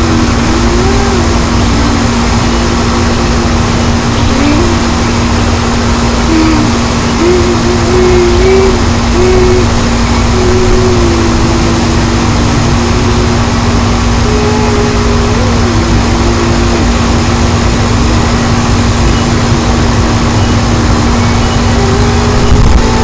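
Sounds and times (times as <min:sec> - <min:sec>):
steady low hum: 0:00.0 - 0:23.0
wavering high tone: 0:00.0 - 0:23.0.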